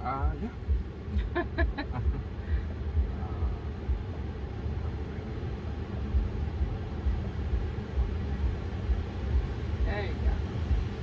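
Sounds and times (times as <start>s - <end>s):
car air-conditioning fan blowing: 0.0s - 11.0s.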